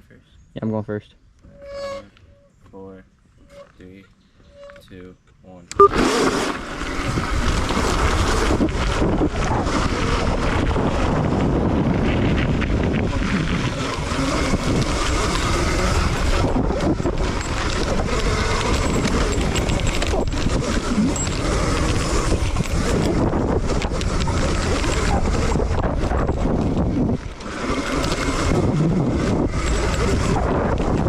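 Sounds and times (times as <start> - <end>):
wind buffeting microphone: 6.0 - 31.0.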